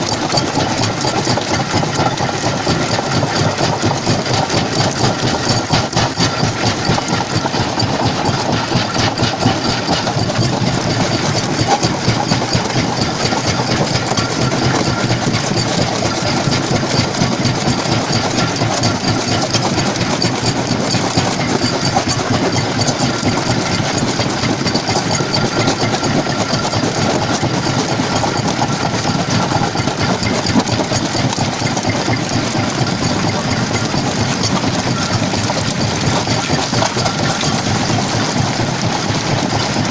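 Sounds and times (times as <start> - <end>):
stone crusher clattering: 0.0 - 39.9.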